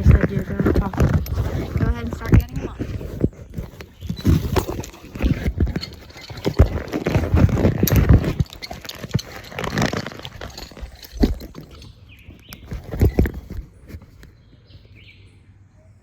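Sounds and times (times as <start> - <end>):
knocks and scuffs clattering: 0.0 - 14.7.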